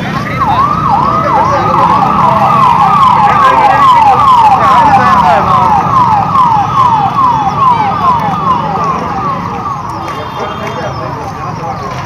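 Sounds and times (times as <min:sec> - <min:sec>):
police siren yelping: 0:00.0 - 0:10.5.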